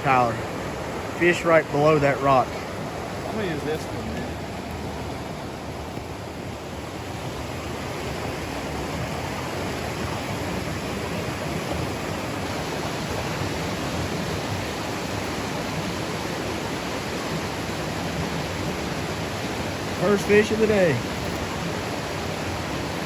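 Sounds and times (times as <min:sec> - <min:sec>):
rushing mountain stream: 0:00.0 - 0:23.0.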